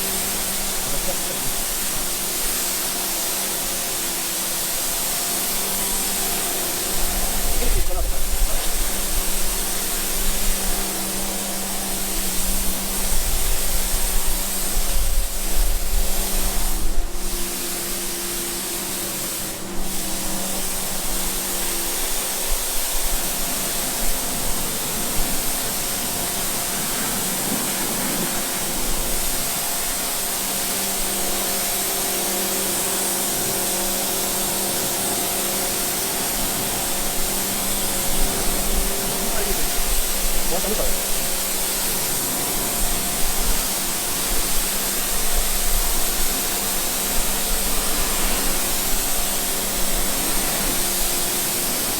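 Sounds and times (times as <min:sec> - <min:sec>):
cleaning machine hissing: 0:00.0 - 0:51.9.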